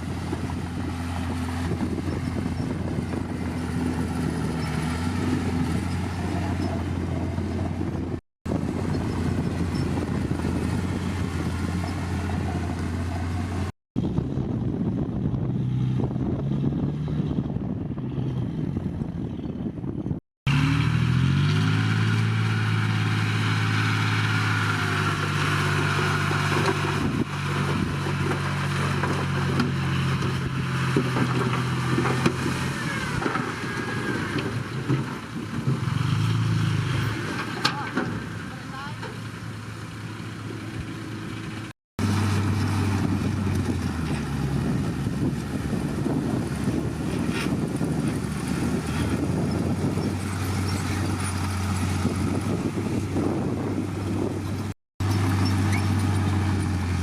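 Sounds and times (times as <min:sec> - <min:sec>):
heavy diesel engine running: 0:00.0 - 0:16.1, 0:20.5 - 0:57.0.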